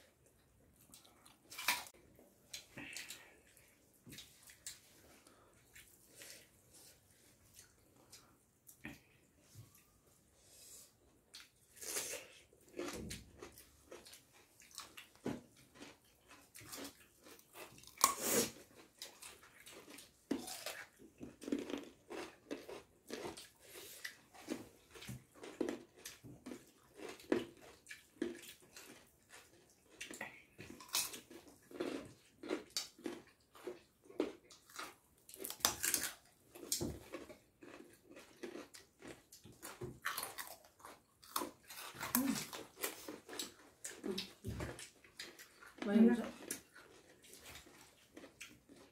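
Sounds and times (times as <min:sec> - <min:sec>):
people chewing and lip-smacking: 0:00.1 - 0:48.9.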